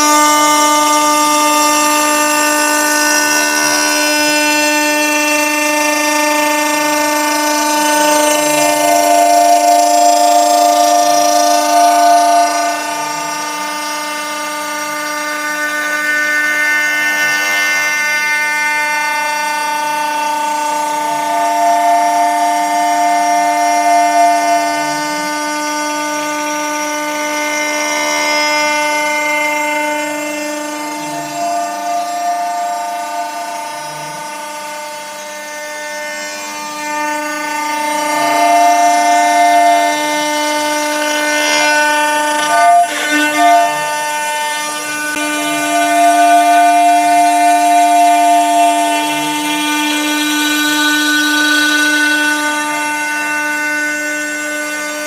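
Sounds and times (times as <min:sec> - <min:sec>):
router spindle whine: 0:00.0 - 0:55.0
stepper motor tones: 0:00.0 - 0:55.0.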